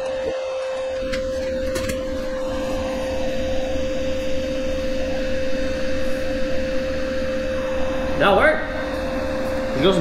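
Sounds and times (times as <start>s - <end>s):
machine hum with pitched tone: 0.0s - 10.0s.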